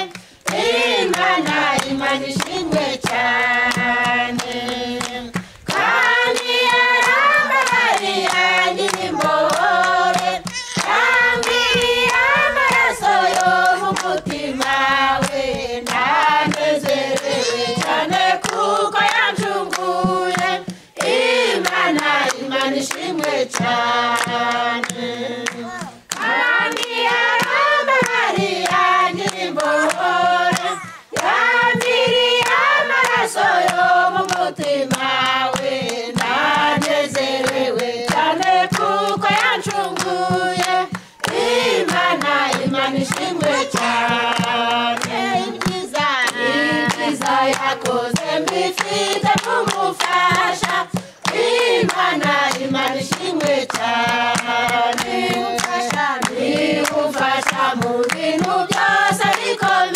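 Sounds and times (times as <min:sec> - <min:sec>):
hand-clapping: 0:00.0 - 0:59.9
women singing a hymn: 0:00.0 - 0:59.9.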